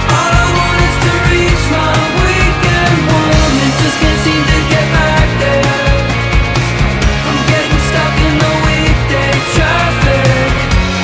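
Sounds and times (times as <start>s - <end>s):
distorted electric guitars: 0.0s - 11.0s
steady drum beat: 0.0s - 11.0s.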